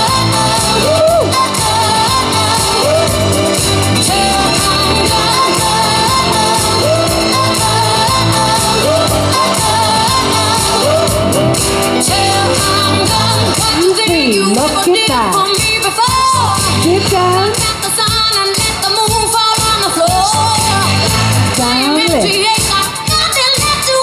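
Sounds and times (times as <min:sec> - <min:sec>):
pop song over loudspeakers: 0:00.0 - 0:24.0.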